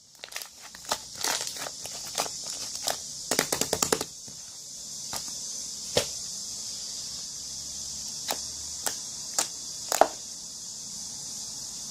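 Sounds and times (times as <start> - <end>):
steady high hiss: 0.0 - 11.9.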